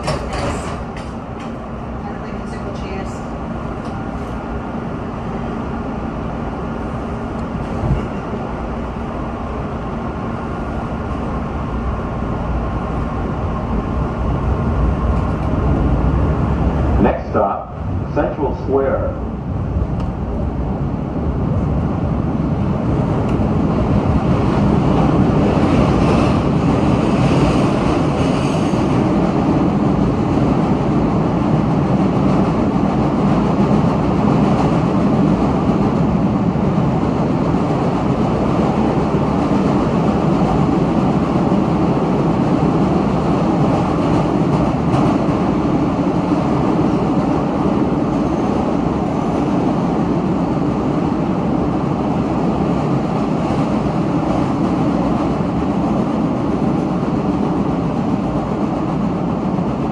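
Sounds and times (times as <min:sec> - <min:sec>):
subway train rumbling in tunnel: 0:00.0 - 0:59.9.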